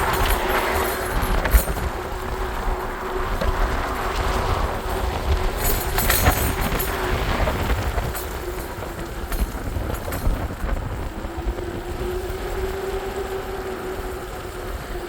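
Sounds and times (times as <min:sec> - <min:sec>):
vehicle hum: 0:00.0 - 0:15.0
wind noise on microphone: 0:00.0 - 0:15.0.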